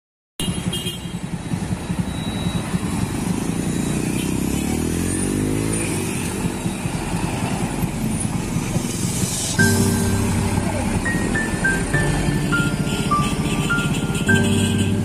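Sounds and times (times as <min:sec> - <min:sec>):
motorcycle engines: 0:00.4 - 0:15.0
diesel truck engines pulling away: 0:01.5 - 0:15.0.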